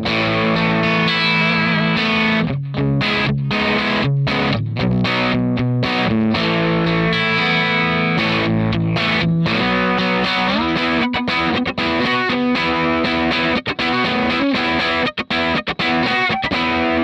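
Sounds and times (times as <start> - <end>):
electric guitar notes and chords: 0.0 - 17.0.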